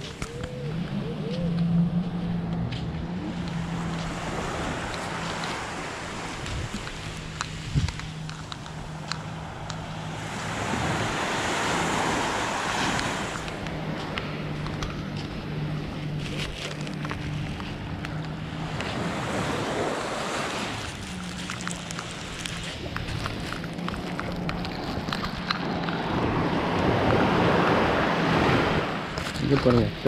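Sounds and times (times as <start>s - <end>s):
low hum: 0.0s - 29.4s
small waves lapping on beach: 0.0s - 30.0s.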